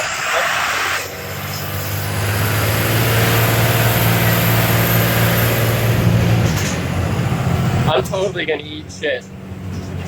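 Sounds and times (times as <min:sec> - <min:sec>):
bus diesel engine accelerating: 0:00.0 - 0:10.0.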